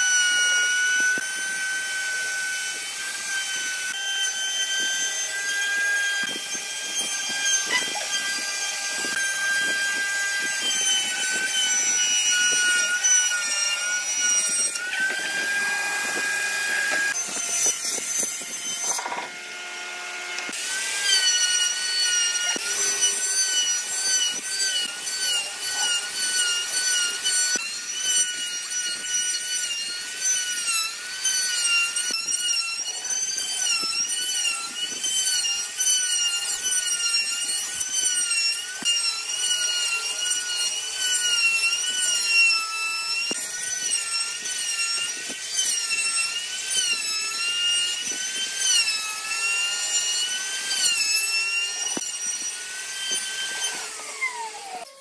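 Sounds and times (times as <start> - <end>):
router whining cutting wood: 0.0 - 55.0
woodworking machine humming: 0.0 - 55.0.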